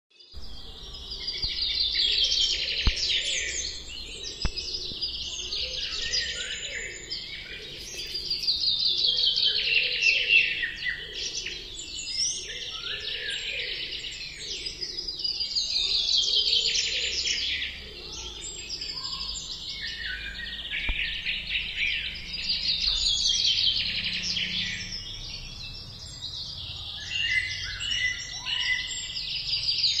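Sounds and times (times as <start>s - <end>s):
birds chirping in chorus: 0.1s - 30.0s.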